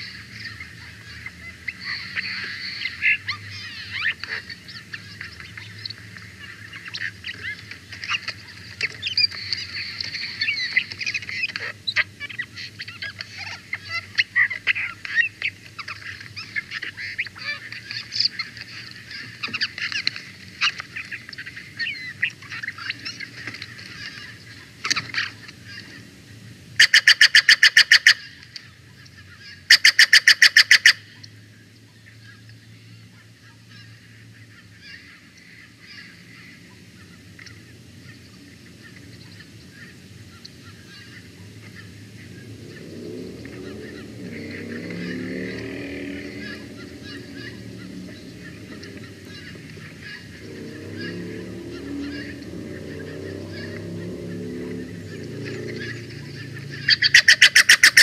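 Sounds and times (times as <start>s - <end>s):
harsh pulsed bird calls: 0.0s - 58.0s
small birds chattering: 0.0s - 58.0s.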